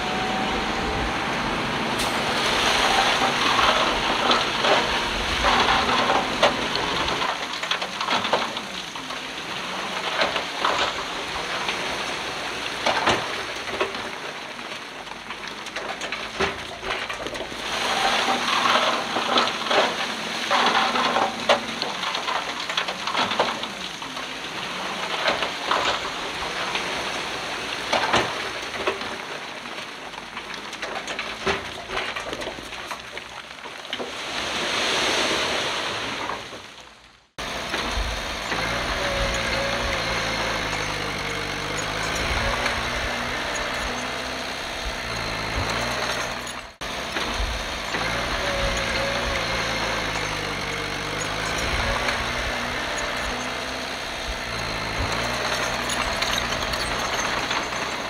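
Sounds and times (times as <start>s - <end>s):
heavy diesel engine humming: 0.0s - 28.8s, 37.4s - 58.0s.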